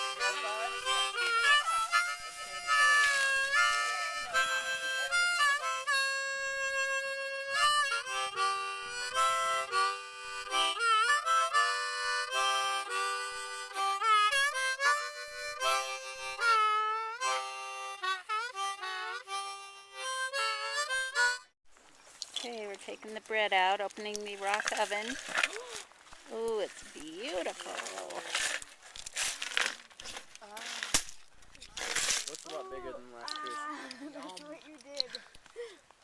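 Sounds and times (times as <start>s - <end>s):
harmonica melody: 0.0s - 21.6s, 22.6s - 35.7s.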